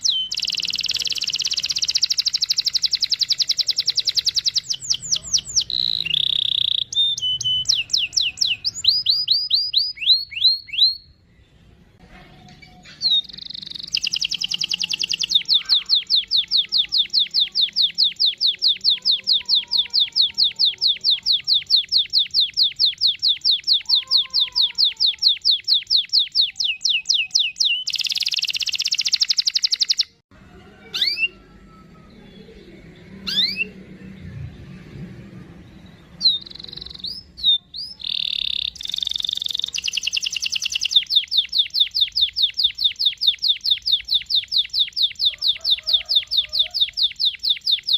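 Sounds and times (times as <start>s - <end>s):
canary singing trills: 0.0s - 11.6s, 12.6s - 30.2s, 30.8s - 34.2s, 35.6s - 47.9s.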